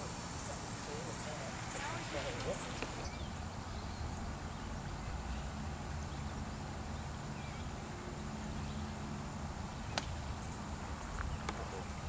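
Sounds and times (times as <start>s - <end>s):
bird chirp: 0.3s - 9.0s, 9.7s - 12.0s.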